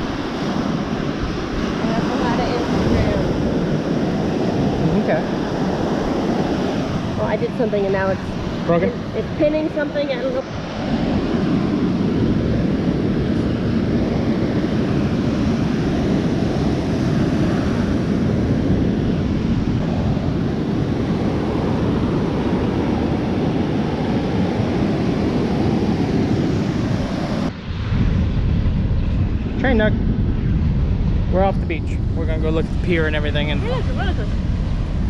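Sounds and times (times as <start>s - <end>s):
ocean surf roaring: 0.0s - 35.0s
wind buffeting microphone: 0.0s - 35.0s.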